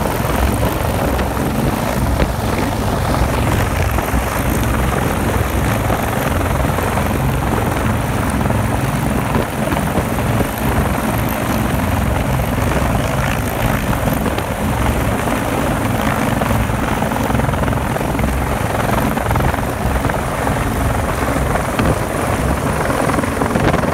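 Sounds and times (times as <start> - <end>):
helicopter hovering: 0.0 - 23.9.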